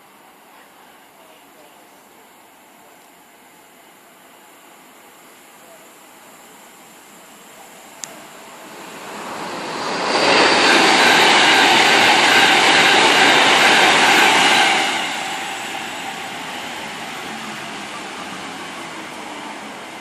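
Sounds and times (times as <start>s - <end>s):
train passing at speed: 3.8s - 20.0s.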